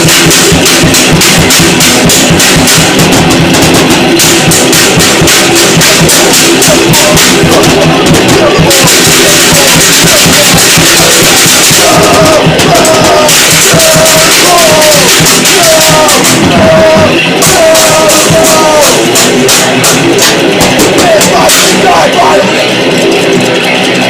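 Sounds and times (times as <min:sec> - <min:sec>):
distorted noise-rock music: 0:00.0 - 0:24.0
drum hits: 0:00.0 - 0:24.0.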